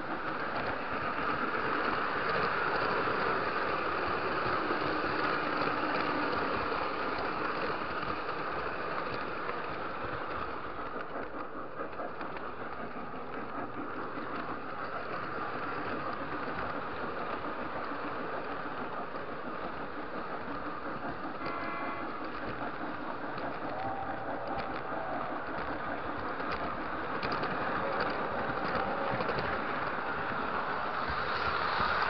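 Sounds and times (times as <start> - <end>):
model train motor humming: 0.0 - 32.0
wheels rattling over rails: 0.0 - 32.0.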